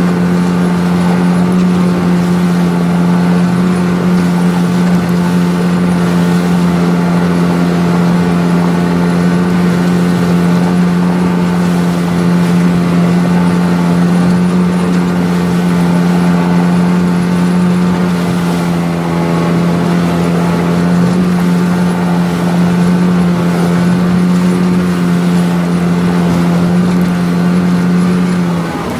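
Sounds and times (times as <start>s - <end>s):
outboard motor running: 0.0s - 28.9s.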